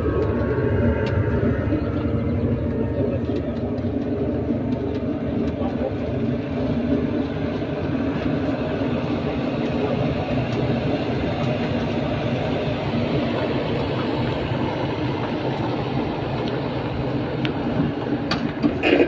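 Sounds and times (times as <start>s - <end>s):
road train engine drone: 0.0s - 19.0s
wheels rolling noise: 0.0s - 19.0s.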